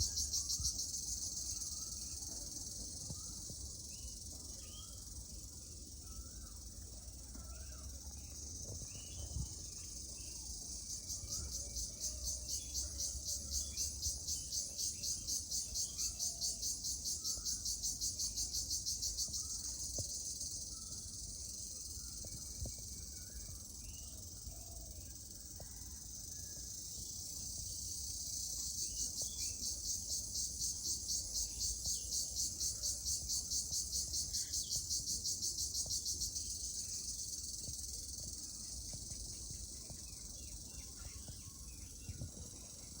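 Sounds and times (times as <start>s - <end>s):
cricket chirring: 0.0s - 43.0s.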